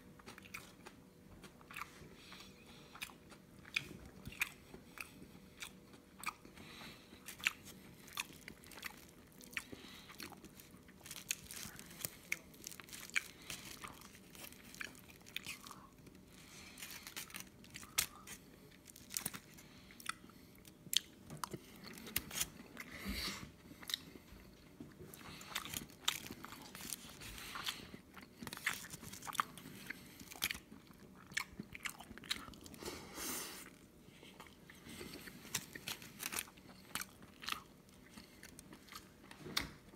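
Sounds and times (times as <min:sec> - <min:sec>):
person chewing and eating: 0:00.0 - 0:39.9.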